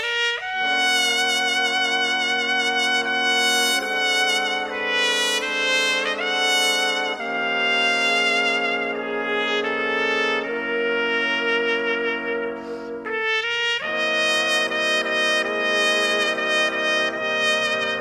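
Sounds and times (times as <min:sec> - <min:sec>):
trumpet ensemble playing a ballad: 0:00.0 - 0:18.0.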